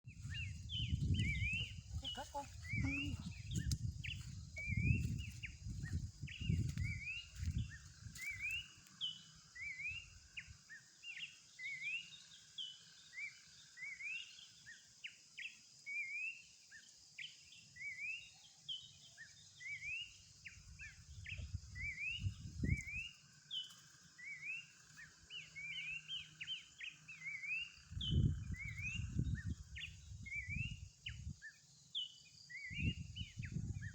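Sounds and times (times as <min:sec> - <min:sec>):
bird singing whistled notes: 0:00.1 - 0:33.9.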